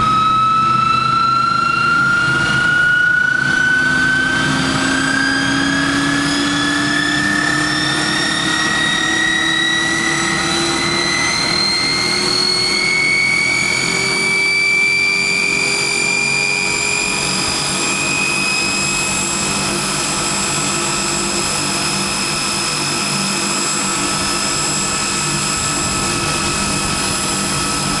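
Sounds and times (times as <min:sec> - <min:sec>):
turboprop engine whine: 0:00.0 - 0:28.0.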